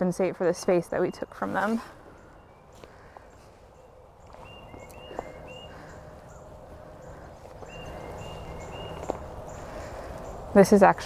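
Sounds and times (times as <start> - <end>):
birds singing whistled notes: 0.6 - 10.8.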